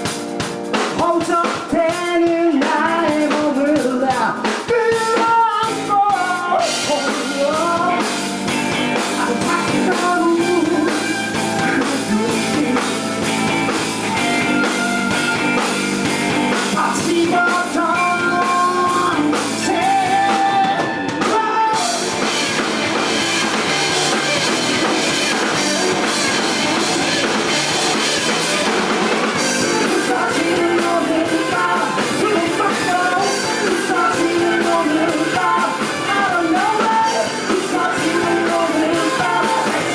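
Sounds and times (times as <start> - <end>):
live rock band playing: 0.0 - 39.9
person singing: 0.8 - 13.1, 16.4 - 39.9.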